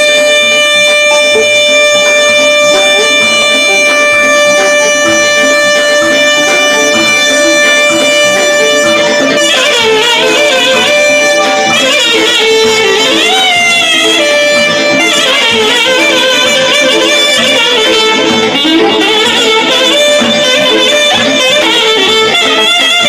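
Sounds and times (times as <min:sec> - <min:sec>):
folk band music: 0:00.0 - 0:23.0
violin melody: 0:00.0 - 0:23.0.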